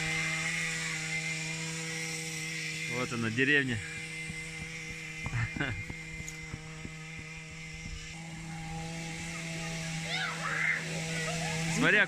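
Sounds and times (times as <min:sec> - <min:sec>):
small engine buzzing hum: 0:00.0 - 0:12.0.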